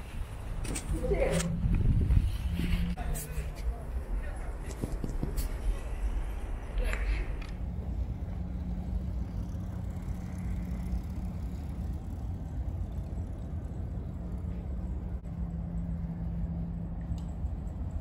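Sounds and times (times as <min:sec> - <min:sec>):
distant road traffic rumble: 0:00.0 - 0:18.0
faint engine hum: 0:00.0 - 0:18.0.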